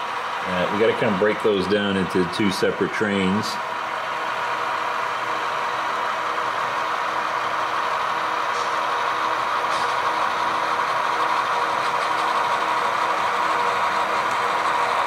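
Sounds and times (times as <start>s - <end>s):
model locomotive engine drone: 0.0s - 15.0s.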